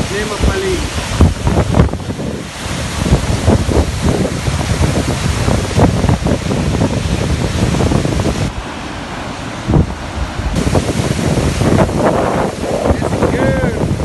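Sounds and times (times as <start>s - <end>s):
floodwater rushing: 0.0s - 14.0s
wind buffeting microphone: 0.0s - 14.0s.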